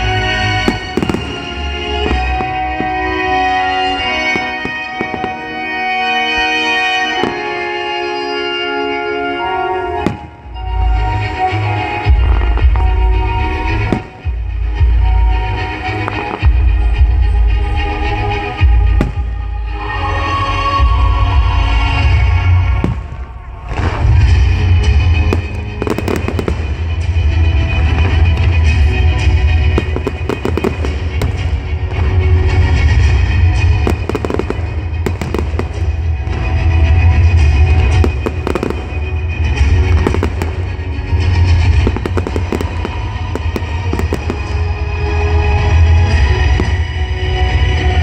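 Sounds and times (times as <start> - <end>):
fireworks bursting: 0.0 - 48.0
music: 0.0 - 48.0.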